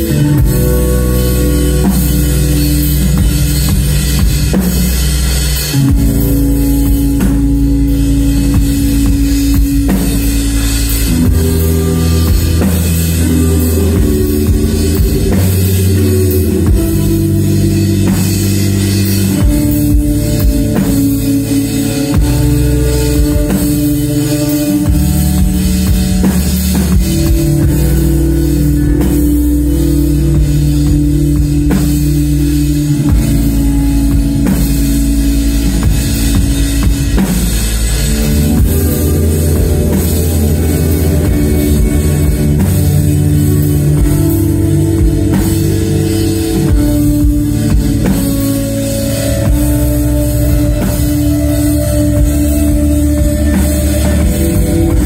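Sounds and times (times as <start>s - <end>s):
driving drum kit: 0.0s - 55.0s
electric guitars and bass: 0.0s - 55.0s.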